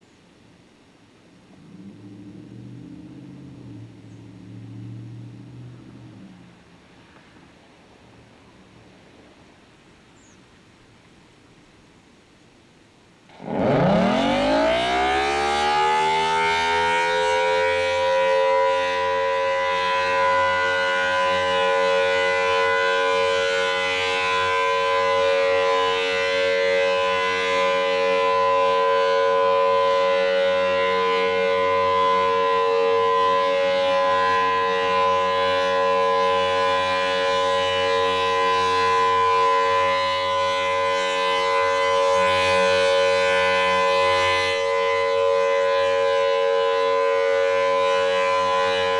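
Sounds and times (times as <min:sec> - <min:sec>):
civil defense siren steady tone: 0:00.3 - 0:10.1, 0:13.0 - 0:48.9.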